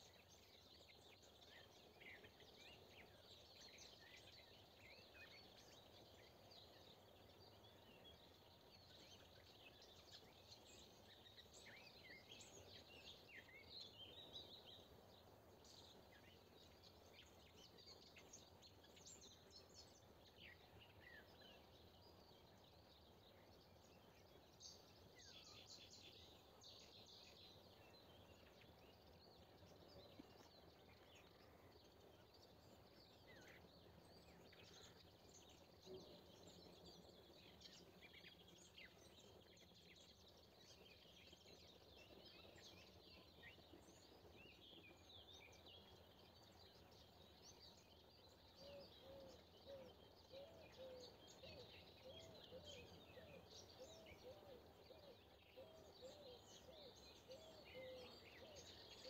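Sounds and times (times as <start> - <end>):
low rural background hum: 0.0 - 59.0
songbirds chirping and trilling: 0.0 - 59.0.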